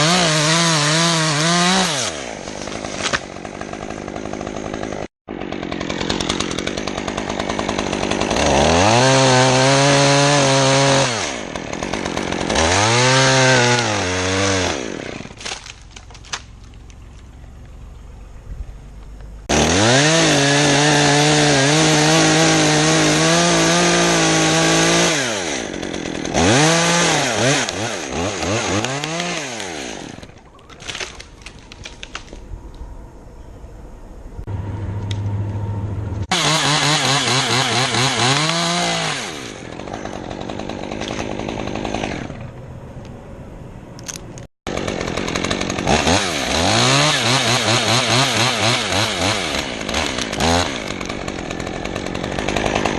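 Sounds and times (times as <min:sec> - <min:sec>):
chainsaw revving: 0:00.0 - 0:15.7, 0:19.4 - 0:32.4, 0:36.2 - 0:42.6, 0:44.1 - 0:52.9.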